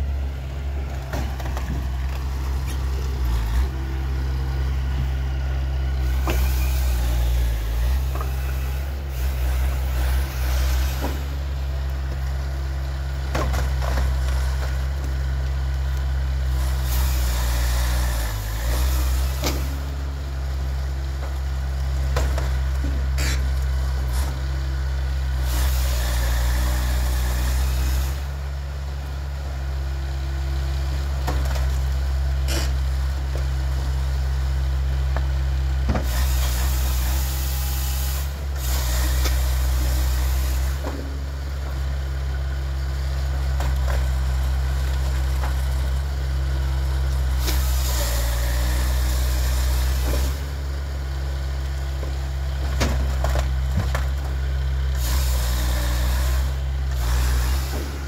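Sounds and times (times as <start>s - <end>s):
firewood processor engine droning: 0.0s - 58.0s.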